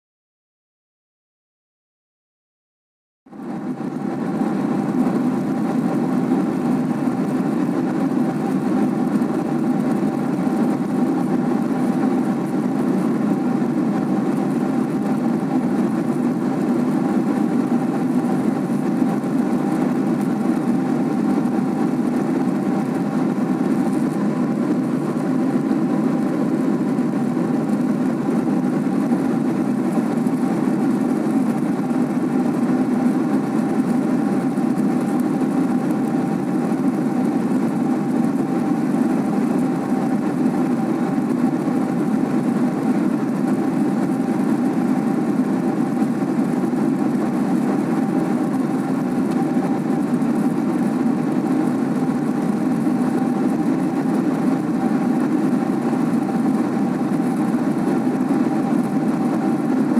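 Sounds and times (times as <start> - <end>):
jet engines droning in cabin: 3.3 - 59.9.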